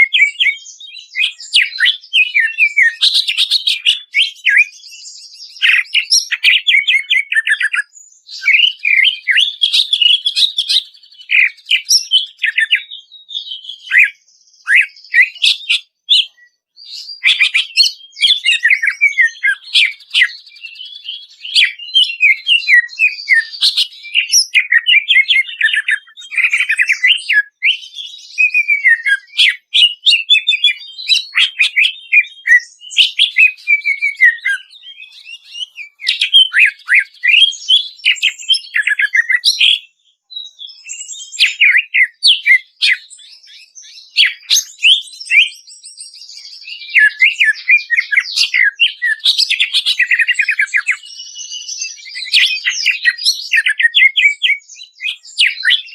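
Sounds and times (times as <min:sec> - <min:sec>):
bird singing chirps and trills: 0:00.0 - 0:55.9.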